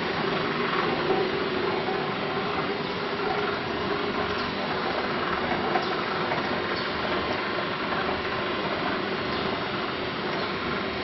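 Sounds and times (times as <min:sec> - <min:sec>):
wire drawing machine running: 0:00.0 - 0:11.0.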